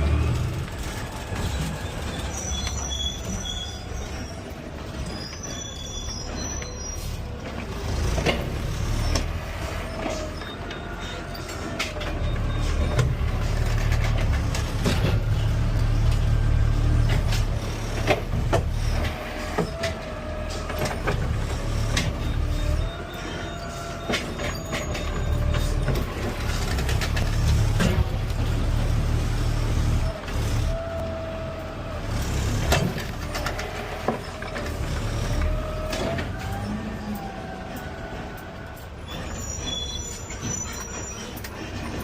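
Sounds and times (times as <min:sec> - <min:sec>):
truck engine rumble: 0:00.0 - 0:42.0.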